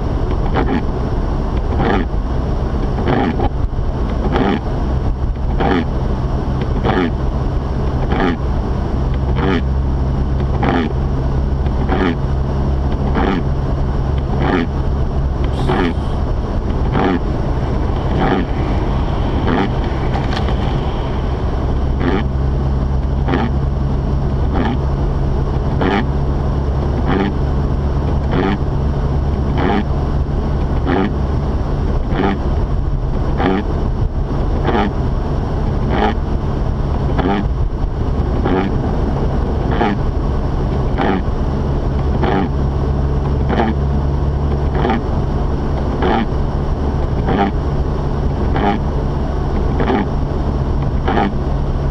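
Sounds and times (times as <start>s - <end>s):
car engine drone: 0.0s - 51.9s
road noise: 0.0s - 51.9s.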